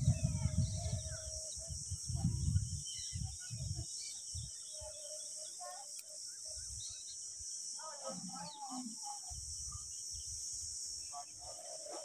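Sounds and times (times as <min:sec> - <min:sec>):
small birds chirping: 0:00.0 - 0:10.4
high insect trill: 0:00.0 - 0:12.0.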